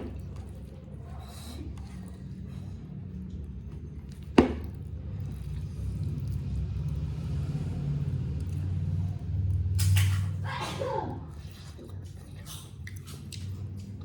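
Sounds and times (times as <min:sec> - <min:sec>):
muffled chewing: 0:00.0 - 0:14.0.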